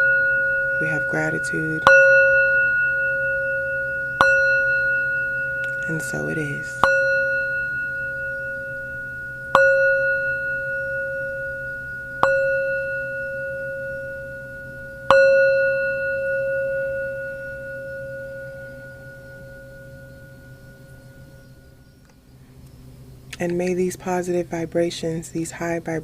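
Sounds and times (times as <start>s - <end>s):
struck metal instrument ringing: 0.0s - 22.0s.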